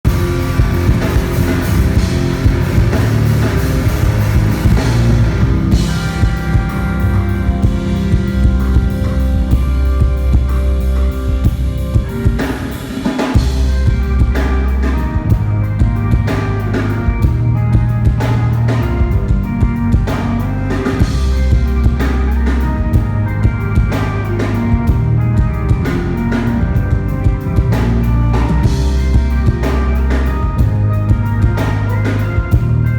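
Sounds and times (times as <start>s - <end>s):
heavy bass notes: 0.0s - 32.9s
rock band playing: 0.0s - 32.9s.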